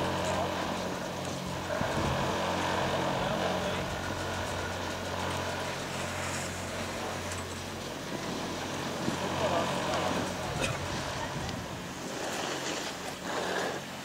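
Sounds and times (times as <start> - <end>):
chairlift machinery humming: 0.0 - 14.0.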